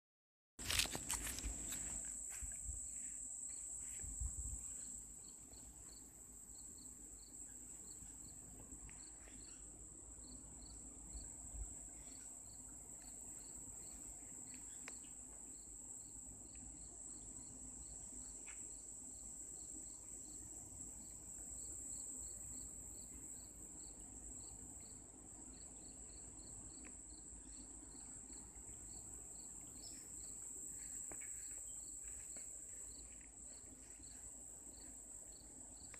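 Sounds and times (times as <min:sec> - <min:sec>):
insect chorus drone: 0:00.6 - 0:35.9.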